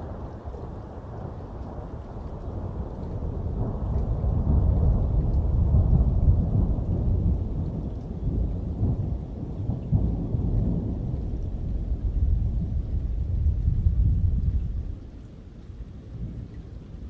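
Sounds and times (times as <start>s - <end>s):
rain: 0.0s - 17.0s
rolling thunder: 0.1s - 15.1s.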